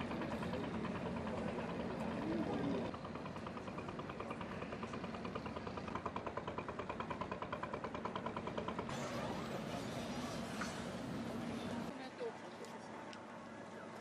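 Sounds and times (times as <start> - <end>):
engine running with rhythmic beat: 0.0 - 14.0.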